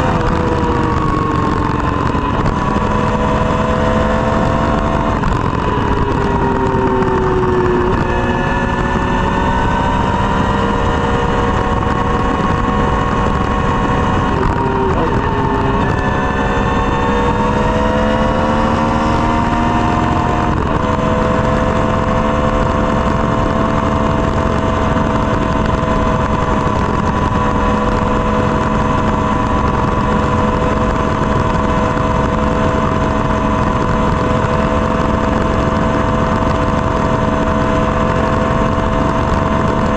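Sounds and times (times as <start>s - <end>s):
dense rushing noise: 0.0s - 39.9s
motorcycle engine running: 0.0s - 39.9s.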